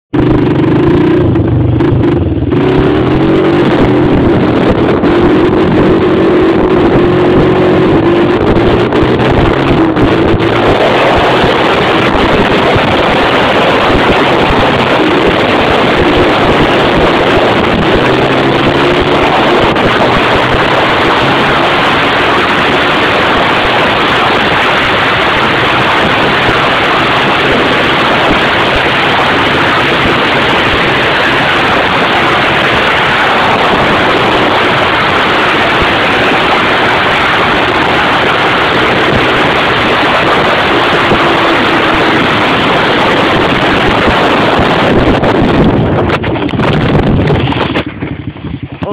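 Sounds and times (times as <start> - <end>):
four-wheeler engine running: 0.1 - 48.9
wind noise on microphone: 0.1 - 48.9.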